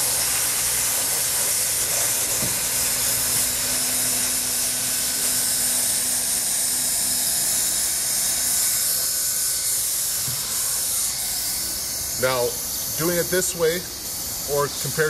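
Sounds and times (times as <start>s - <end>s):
hot air welder hissing: 0.0s - 15.0s.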